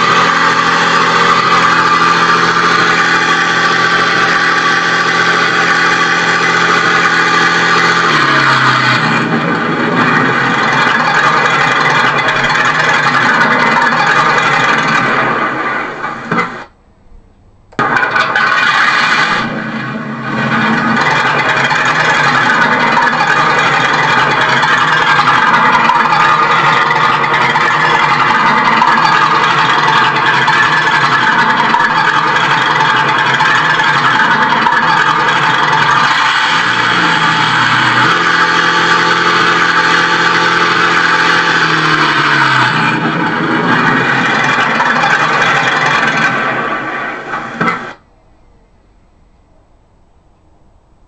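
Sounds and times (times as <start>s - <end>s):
model tank engine running: 0.0s - 16.8s, 17.8s - 48.0s.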